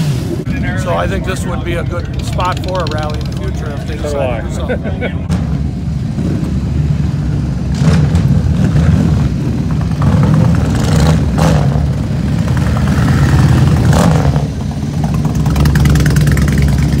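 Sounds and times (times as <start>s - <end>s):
motorcycle engine revving: 0.0s - 4.1s, 5.3s - 17.0s
motorcycles passing: 0.0s - 17.0s.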